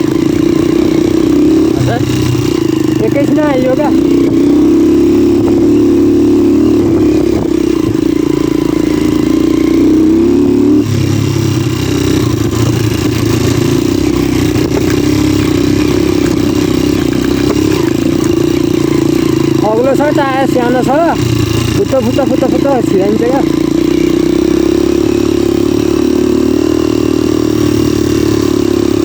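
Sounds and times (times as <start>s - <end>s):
motorcycle engine under load: 0.0s - 29.0s.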